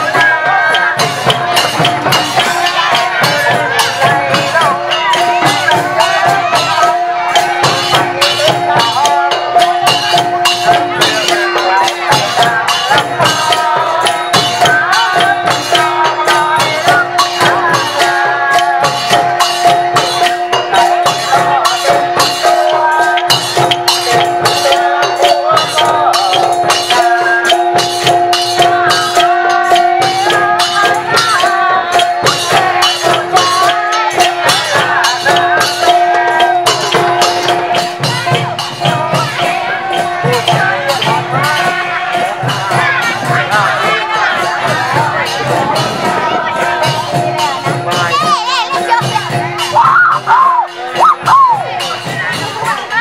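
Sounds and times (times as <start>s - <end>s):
shaker-like percussion: 0.0s - 53.0s
wavering melody: 0.0s - 53.0s.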